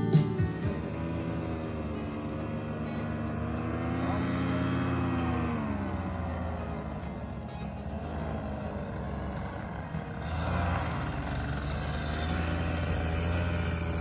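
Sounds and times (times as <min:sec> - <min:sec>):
powered parachute engine droning: 0:00.0 - 0:14.0.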